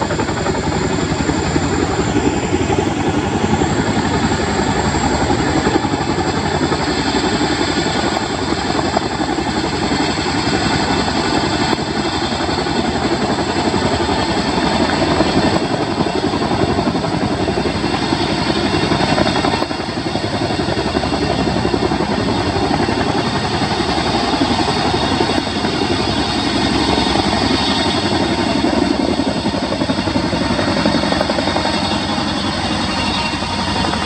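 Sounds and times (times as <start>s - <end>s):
helicopter rotor beat: 0.0s - 34.0s
high turbine whine: 0.0s - 34.0s.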